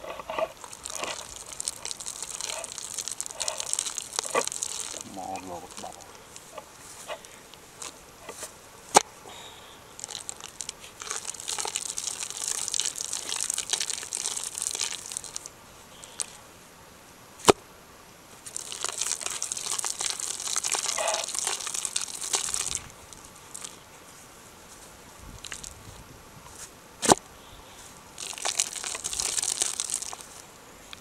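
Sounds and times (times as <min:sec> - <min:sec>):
dry crinkling and rustling: 0:00.0 - 0:09.1, 0:10.0 - 0:16.4, 0:18.4 - 0:31.0.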